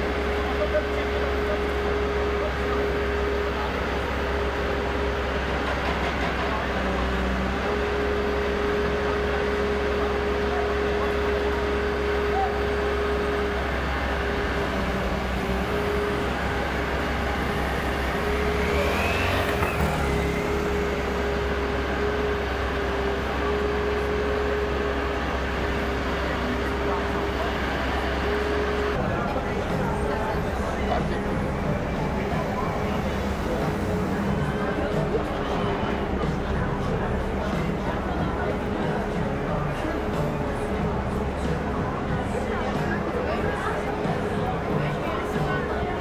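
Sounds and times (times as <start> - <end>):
diesel engines idling: 0.0 - 46.0.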